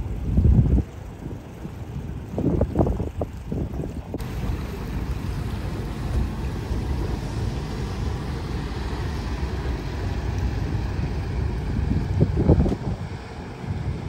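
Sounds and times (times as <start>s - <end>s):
sea water rushing: 0.0s - 14.0s
wind rumble on microphone: 0.0s - 14.0s.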